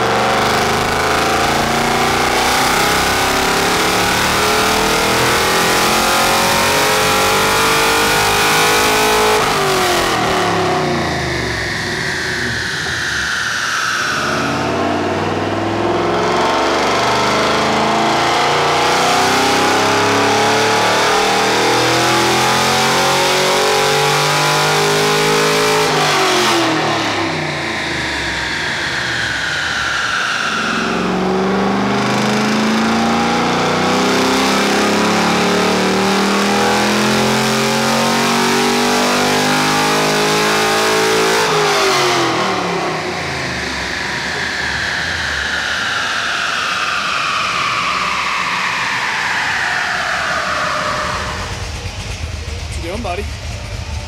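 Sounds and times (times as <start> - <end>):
car engine revving on dyno: 0.0 - 54.0.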